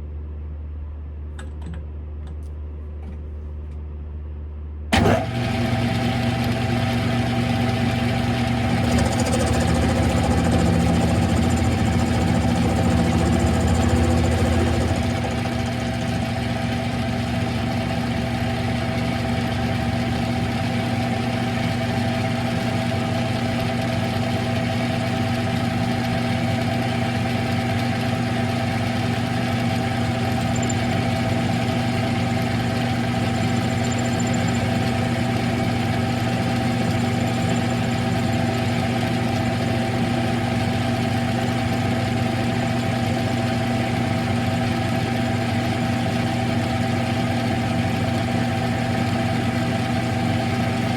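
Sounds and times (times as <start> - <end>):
lathe motor humming: 5.0 - 50.9.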